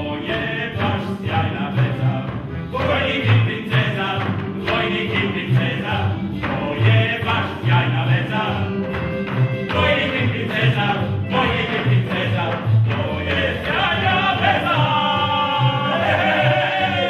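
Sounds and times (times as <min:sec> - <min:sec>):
repeated bass notes: 0:00.0 - 0:17.0
voices singing: 0:00.0 - 0:17.0.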